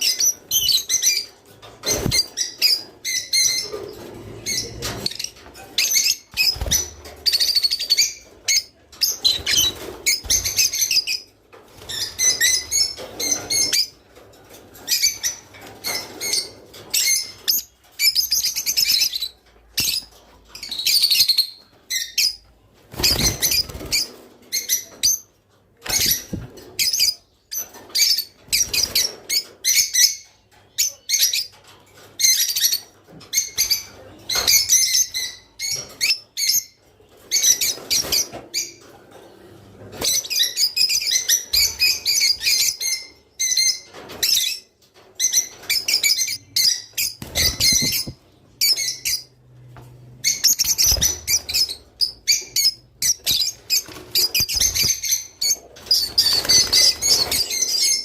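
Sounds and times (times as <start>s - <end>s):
lovebirds chirping and chattering: 0.0s - 58.0s.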